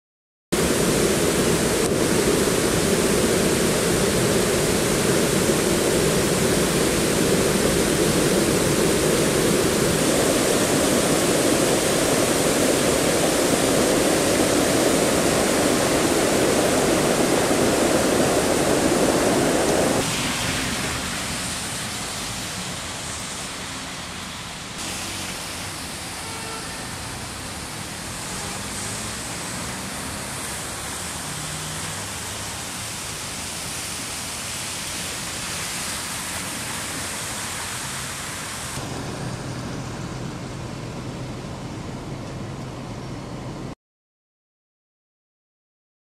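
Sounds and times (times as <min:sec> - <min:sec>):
water rushing over dam: 0:00.6 - 0:42.0.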